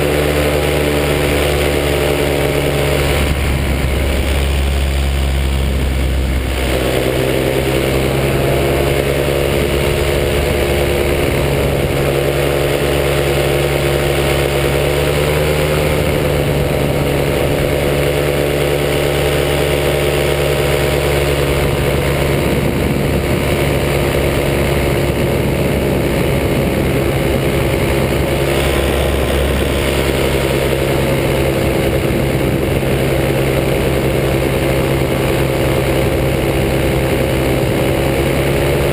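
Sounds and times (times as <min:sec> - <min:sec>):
paramotor engine and propeller: 0:00.0 - 0:38.9.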